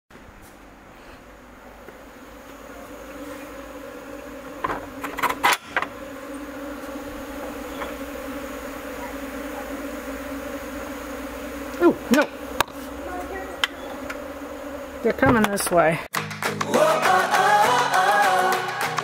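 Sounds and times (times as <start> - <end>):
bees humming: 0.7 - 19.0.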